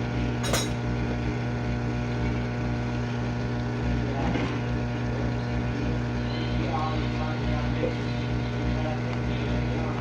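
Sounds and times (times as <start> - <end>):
dishwasher motor hum: 0.0 - 10.0.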